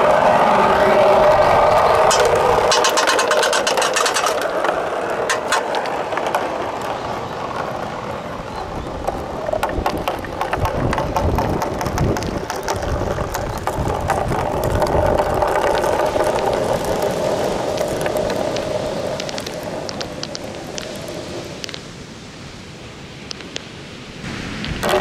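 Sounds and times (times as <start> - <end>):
balls rolling down plastic track: 0.0 - 21.4, 24.6 - 25.0.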